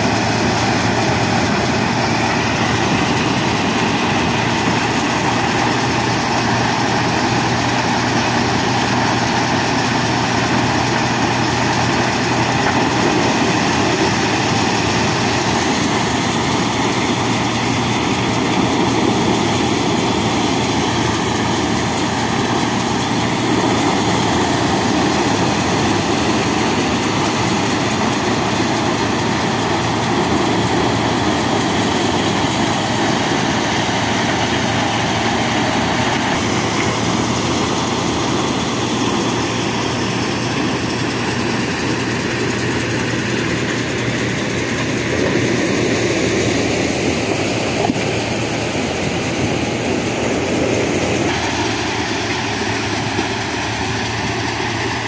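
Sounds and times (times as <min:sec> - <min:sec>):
engine hum: 0:00.0 - 0:55.0
maize thresher running: 0:00.0 - 0:55.0.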